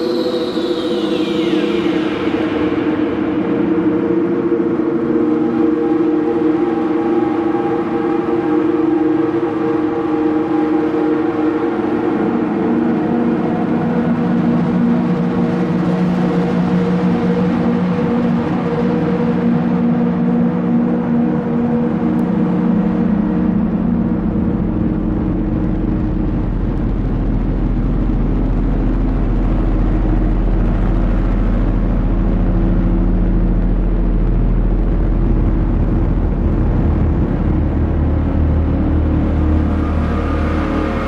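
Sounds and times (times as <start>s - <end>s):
synthesizer drone: 0.0s - 26.7s, 28.6s - 41.0s.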